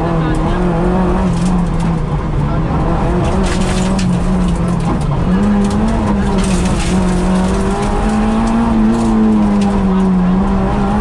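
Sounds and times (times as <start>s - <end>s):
car engine at high revs: 0.0s - 11.0s
tyre and road noise: 0.0s - 11.0s.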